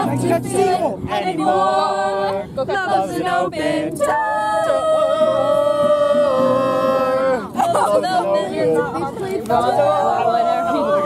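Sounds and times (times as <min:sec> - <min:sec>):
acoustic guitar: 0:00.0 - 0:11.0
women singing together: 0:00.0 - 0:11.0.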